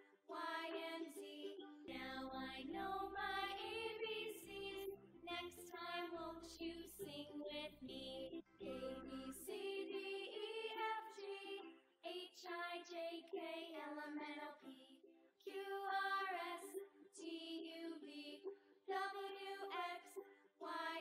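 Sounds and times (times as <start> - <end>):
gentle song by high voice: 0.0 - 21.0.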